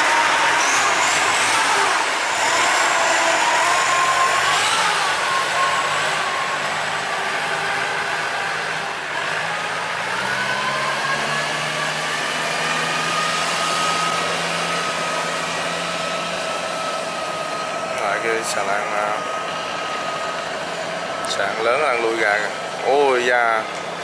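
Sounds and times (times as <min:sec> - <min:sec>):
boat engines running: 0:00.0 - 0:24.0
low engine hum: 0:00.0 - 0:24.0.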